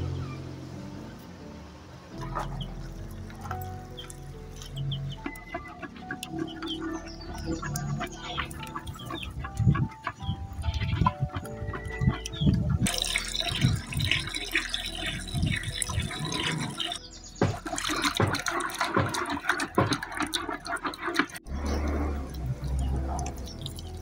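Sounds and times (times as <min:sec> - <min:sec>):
stick sloshing watery mash: 0:02.4 - 0:24.0.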